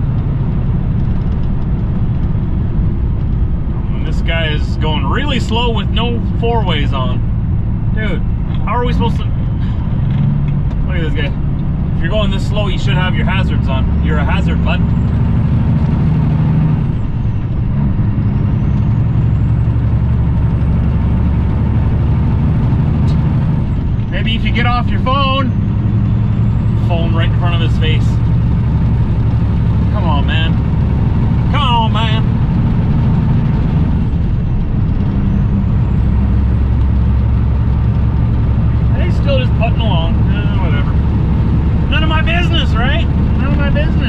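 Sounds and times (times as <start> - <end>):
road and tyre noise: 0.0 - 44.0
truck diesel engine drone: 0.0 - 44.0.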